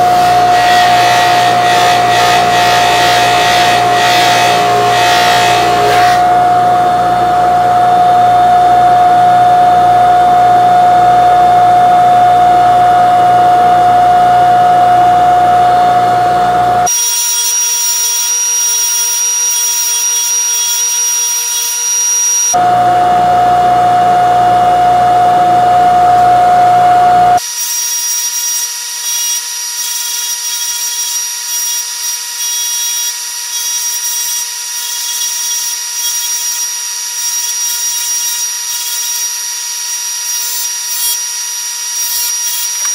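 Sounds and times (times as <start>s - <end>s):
power tool motor whine: 0.0s - 42.9s.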